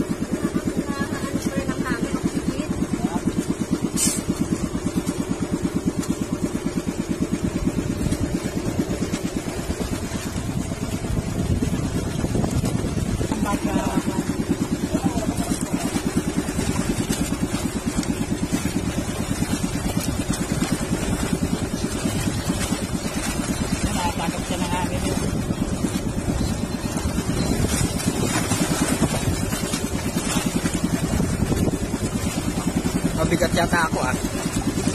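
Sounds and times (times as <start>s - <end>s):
boat engine chugging: 0.0s - 34.9s
water rushing along hull: 0.0s - 34.9s.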